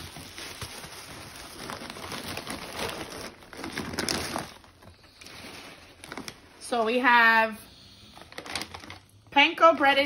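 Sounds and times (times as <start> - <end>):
plastic packaging crinkling: 0.0 - 7.0, 8.2 - 10.0.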